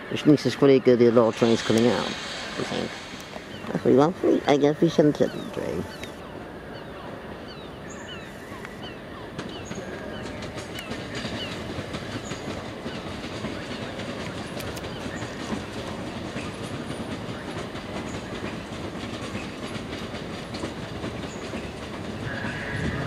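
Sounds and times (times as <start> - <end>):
electric train rumbling past: 0.0 - 23.0.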